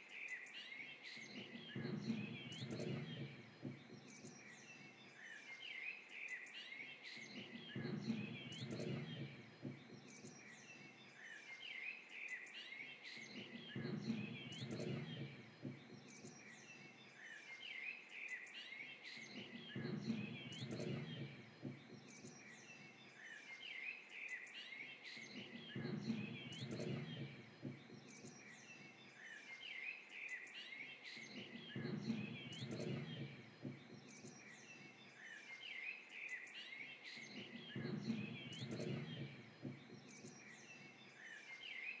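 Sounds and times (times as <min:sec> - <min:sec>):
birds chirping and twittering: 0:00.0 - 0:42.0.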